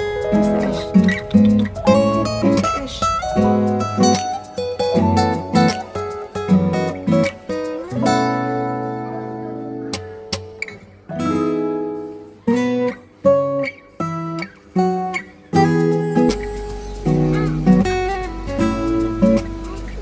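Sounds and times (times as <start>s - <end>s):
acoustic guitar picking and strumming: 0.0s - 20.0s.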